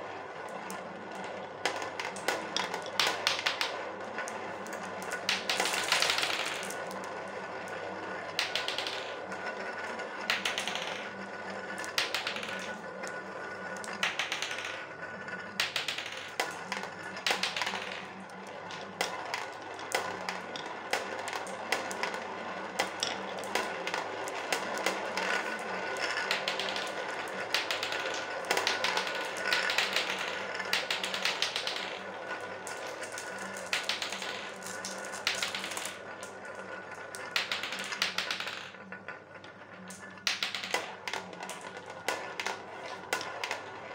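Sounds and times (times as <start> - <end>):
glass marbles rolling in plastic bowl: 0.0 - 43.9.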